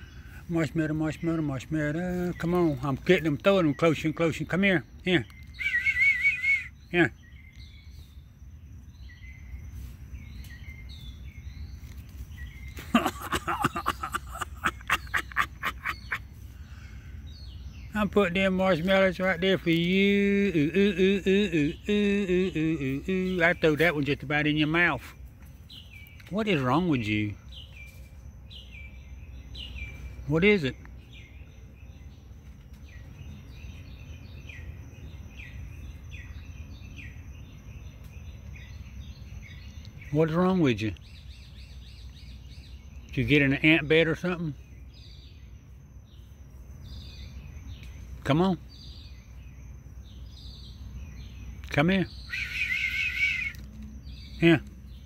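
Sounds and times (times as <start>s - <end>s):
low rumble of background noise: 0.0s - 55.0s.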